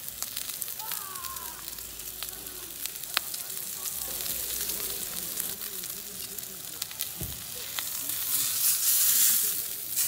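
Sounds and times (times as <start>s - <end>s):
steak sizzling on a grill: 0.0s - 10.0s.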